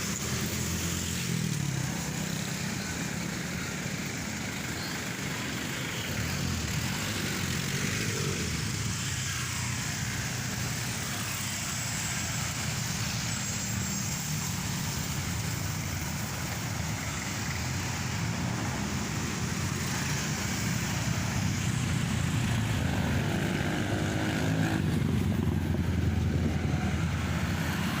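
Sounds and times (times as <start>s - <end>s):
aircraft engines droning overhead: 0.0s - 28.0s
road traffic hum: 0.0s - 28.0s.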